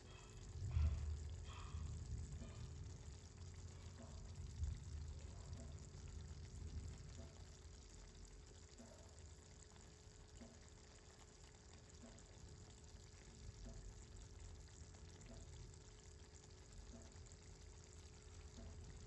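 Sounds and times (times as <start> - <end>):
fish sizzling in oil: 0.0 - 19.0
low steady hum: 0.0 - 19.0.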